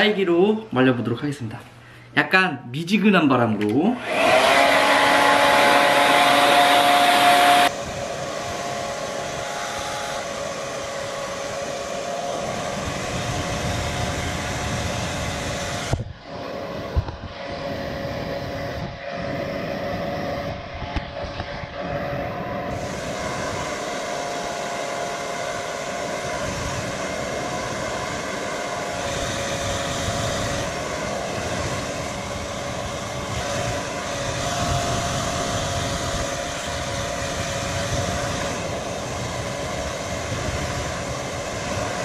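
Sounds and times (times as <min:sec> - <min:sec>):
hair dryer running: 0:03.9 - 0:42.0.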